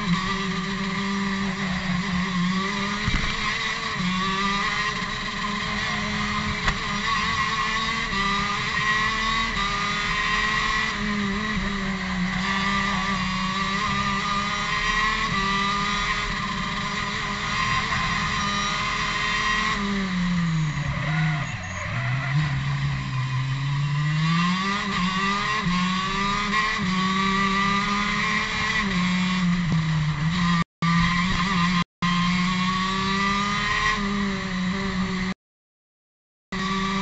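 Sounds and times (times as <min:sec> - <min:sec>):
kart engine at high revs: 0:00.0 - 0:35.4, 0:36.4 - 0:37.0.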